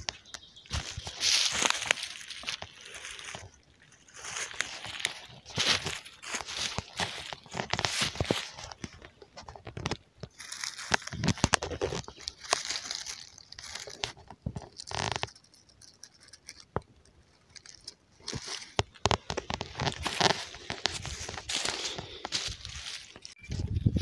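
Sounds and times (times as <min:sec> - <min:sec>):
dry leaves crunching and rustling: 0:00.4 - 0:23.4.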